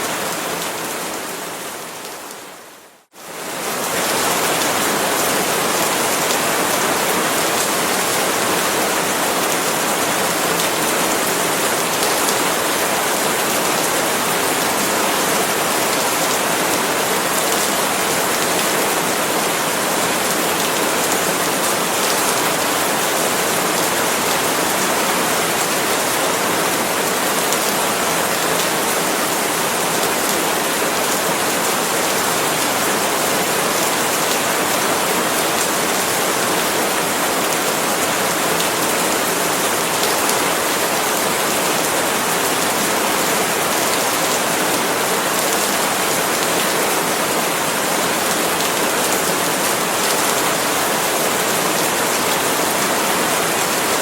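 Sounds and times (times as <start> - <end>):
rain falling on palm leaves: 0.0 - 54.0.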